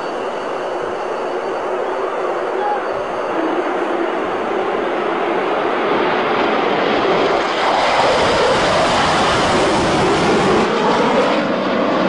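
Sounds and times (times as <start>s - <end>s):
loud jet engine noise: 0.0s - 12.0s.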